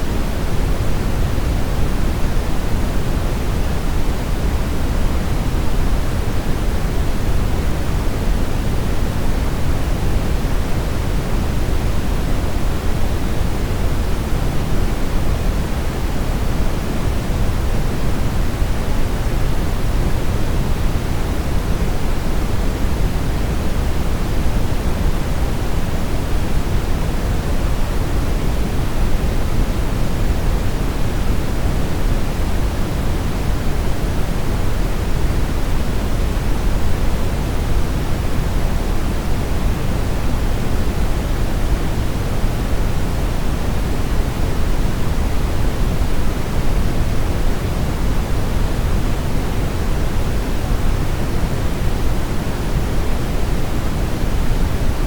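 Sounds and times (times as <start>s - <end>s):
brown noise hiss: 0.0s - 55.0s.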